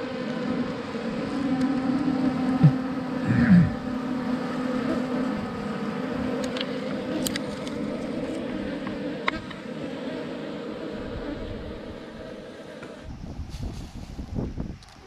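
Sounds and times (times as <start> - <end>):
bees buzzing: 0.0 - 13.4.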